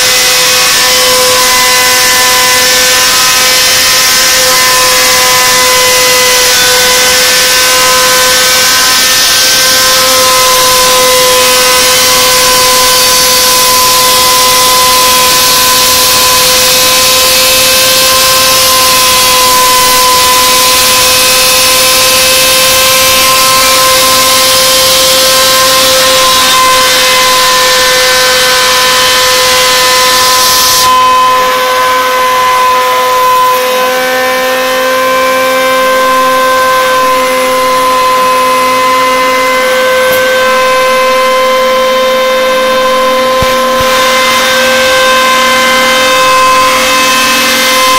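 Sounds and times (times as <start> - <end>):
router spindle motor whining: 0.0 - 47.9.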